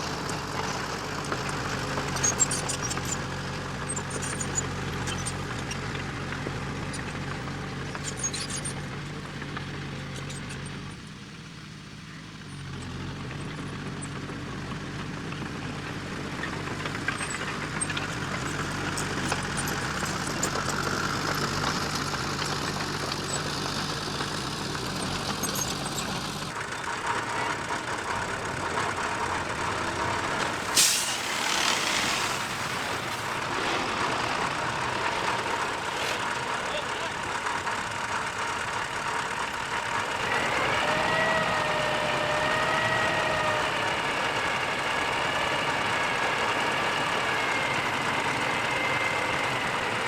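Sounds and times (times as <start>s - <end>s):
heavy machinery diesel engine: 0.0s - 50.0s.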